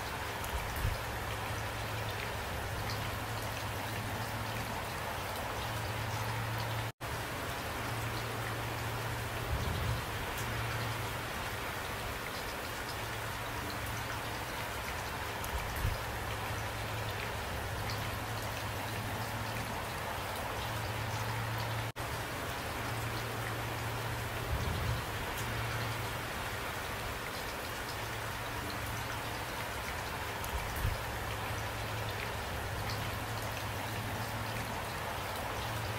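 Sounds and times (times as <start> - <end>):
raindrops pattering close by: 0.0 - 35.9
steady rain falling: 0.0 - 35.9.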